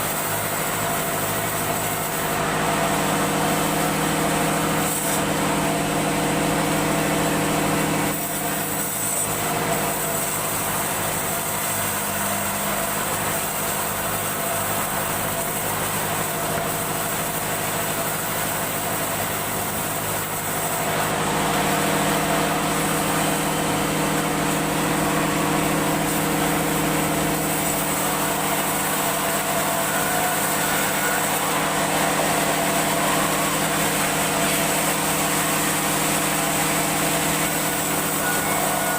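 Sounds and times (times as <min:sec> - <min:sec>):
sawing machine engine running: 0:00.0 - 0:38.9.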